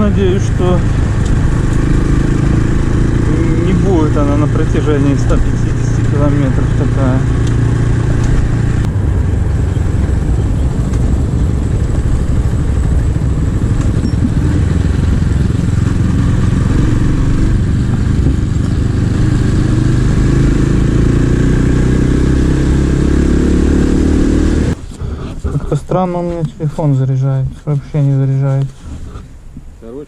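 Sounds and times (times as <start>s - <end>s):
motorcycle engine running: 0.0s - 24.8s
wind noise: 0.0s - 25.7s.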